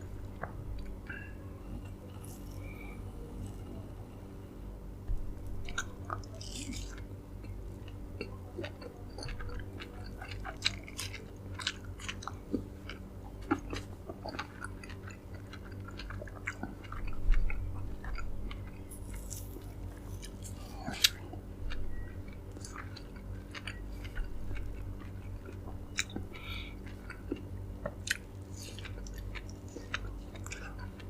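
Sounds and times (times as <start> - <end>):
low hum: 0.0 - 31.0
wet chewing and mouth clicks: 5.6 - 31.0.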